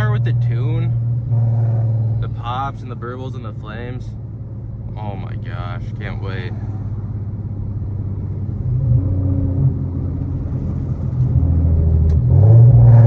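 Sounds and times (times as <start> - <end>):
car exhaust drone: 0.0 - 13.0.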